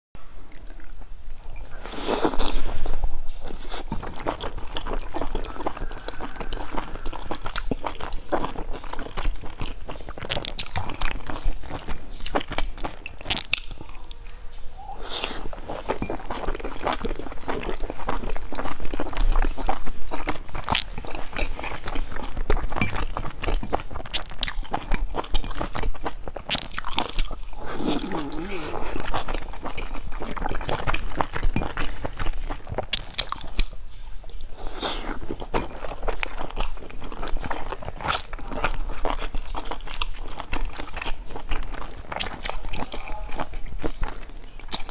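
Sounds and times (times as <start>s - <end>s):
chewing dumplings: 0.4s - 44.9s.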